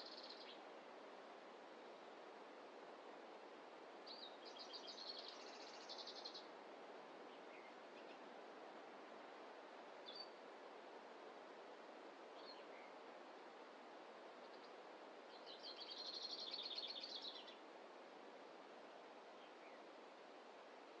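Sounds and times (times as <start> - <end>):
soft forest rush: 0.0 - 21.0.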